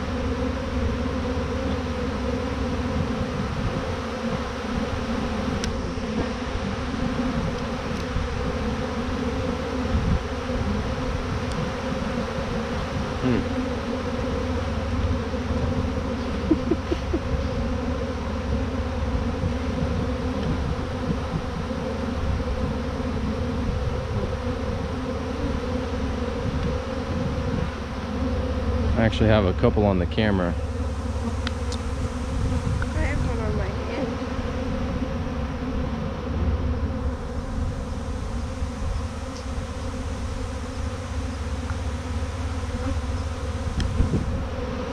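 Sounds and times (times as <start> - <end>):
bee swarm buzzing: 0.0 - 44.9.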